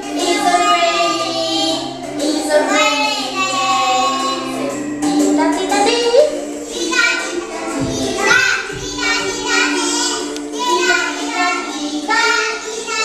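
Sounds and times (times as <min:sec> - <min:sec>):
children and adults singing: 0:00.0 - 0:13.0.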